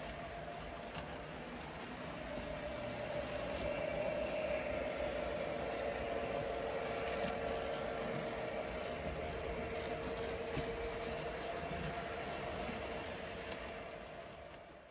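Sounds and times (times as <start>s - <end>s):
model trains humming past: 0.0s - 14.9s.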